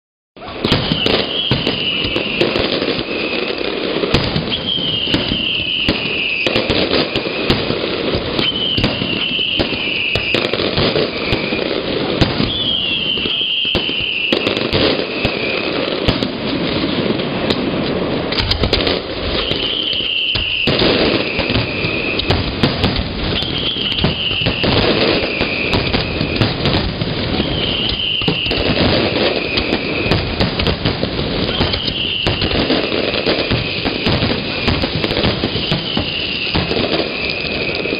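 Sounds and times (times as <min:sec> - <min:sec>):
high falling whistle: 0:00.4 - 0:03.7, 0:04.3 - 0:11.8, 0:12.4 - 0:15.9, 0:19.3 - 0:30.4, 0:31.5 - 0:37.9
fireworks crackling and banging: 0:00.4 - 0:37.9.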